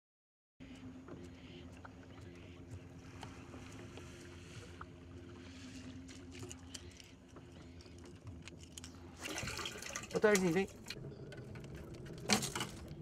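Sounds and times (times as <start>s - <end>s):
faint boat motor humming: 0.6s - 13.0s.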